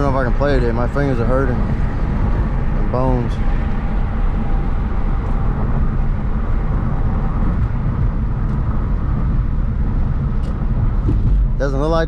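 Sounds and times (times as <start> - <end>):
car engine rumble: 0.0 - 12.0
tyres on road: 0.0 - 12.0.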